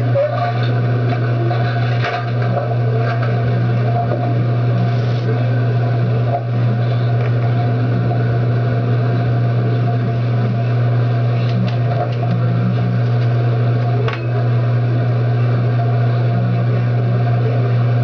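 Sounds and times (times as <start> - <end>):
loud low hum: 0.0 - 18.0.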